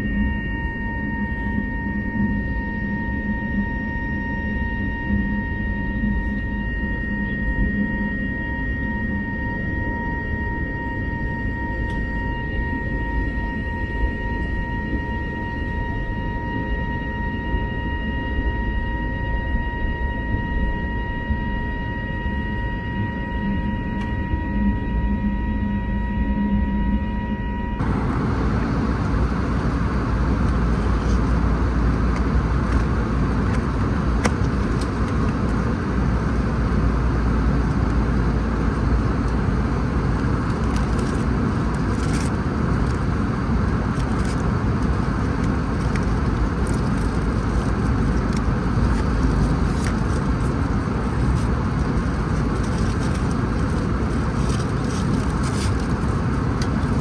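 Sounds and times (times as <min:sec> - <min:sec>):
airplane cabin engine rush: 0:00.0 - 0:57.0.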